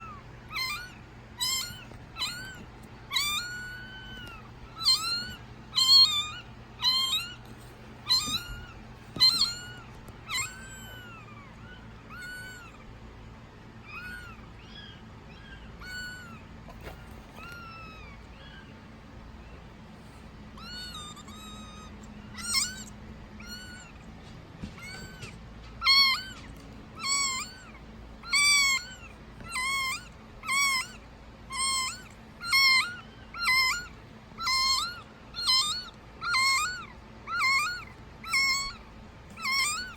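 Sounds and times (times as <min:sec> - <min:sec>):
kitten mewing: 0:00.0 - 0:13.0, 0:13.8 - 0:18.8, 0:20.5 - 0:39.9.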